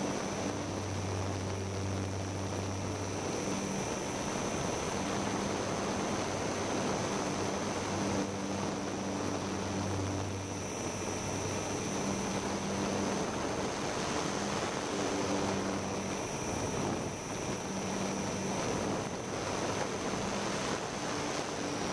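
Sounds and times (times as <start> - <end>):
faint low hum: 0.0 - 21.9
thin high whine: 0.0 - 21.9.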